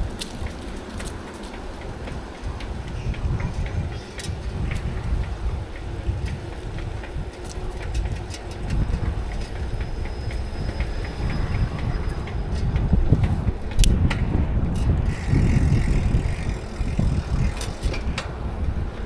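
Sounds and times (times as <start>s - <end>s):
bike rattling clicks: 0.0s - 11.9s, 12.5s - 18.7s
bicycle tyres rumbling on pavement: 0.0s - 19.0s
wind on microphone: 0.0s - 19.0s.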